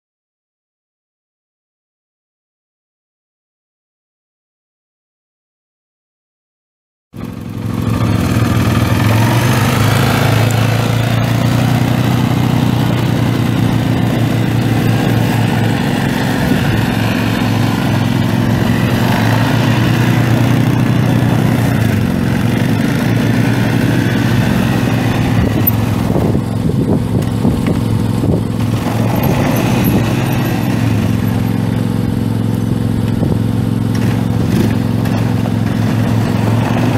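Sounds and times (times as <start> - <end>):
engine running steadily: 7.2 - 36.9.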